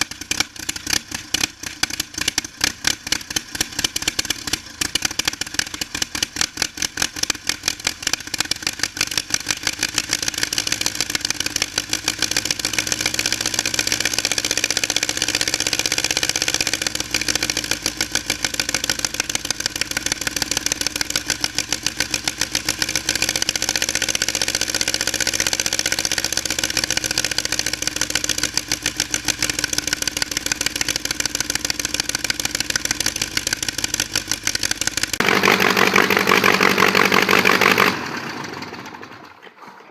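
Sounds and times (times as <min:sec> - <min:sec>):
aircraft engine running: 0:00.0 - 0:39.3.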